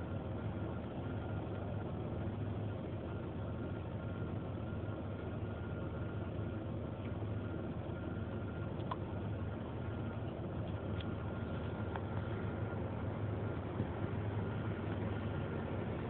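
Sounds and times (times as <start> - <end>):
car engine idling roughly: 0.0 - 16.0.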